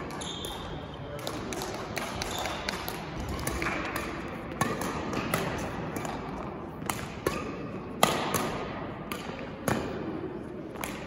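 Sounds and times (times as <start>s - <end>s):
racket hitting shuttlecock: 0.0s - 11.0s
sports hall hum: 0.0s - 11.0s.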